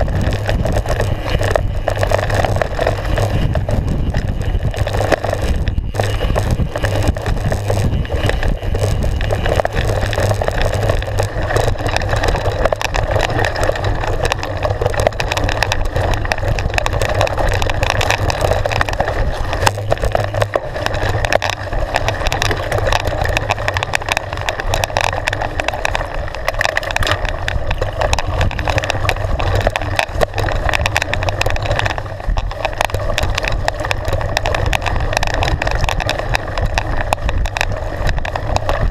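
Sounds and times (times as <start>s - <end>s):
bike rattling and knocking: 0.0s - 38.9s
bike tyres rumbling over stones: 0.0s - 38.9s.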